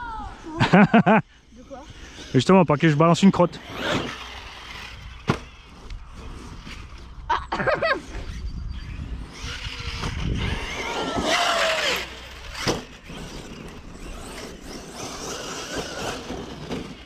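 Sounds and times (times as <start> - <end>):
tyres on rough ground: 0.0 - 17.0
electric motor whining: 1.5 - 7.2, 7.9 - 17.0.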